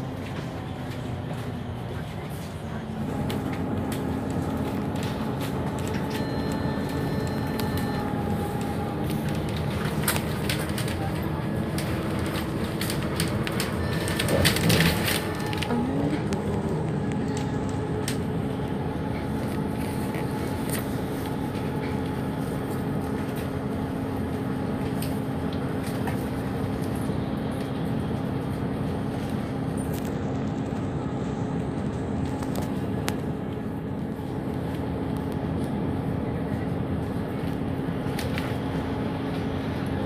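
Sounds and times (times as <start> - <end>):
bus engine and road noise: 0.0 - 40.0.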